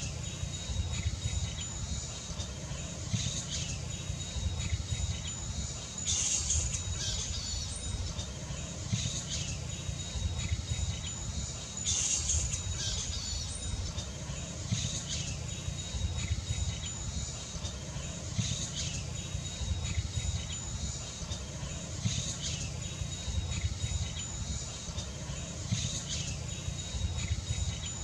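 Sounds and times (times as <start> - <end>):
high chirping calls: 0.0 - 28.0
high-pitched insect-like whine: 0.0 - 28.0.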